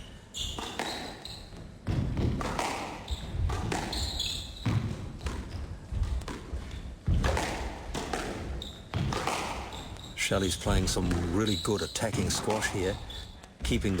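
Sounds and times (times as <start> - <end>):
squash ball hits echoing: 0.4 - 14.0.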